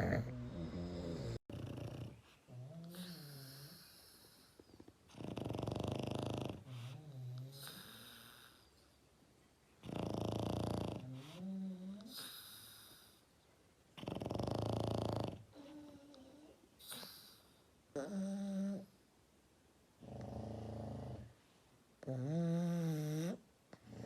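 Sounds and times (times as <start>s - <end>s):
dog snoring: 0.0s - 8.6s, 9.8s - 13.2s, 14.0s - 18.9s, 20.0s - 21.4s, 22.0s - 24.0s.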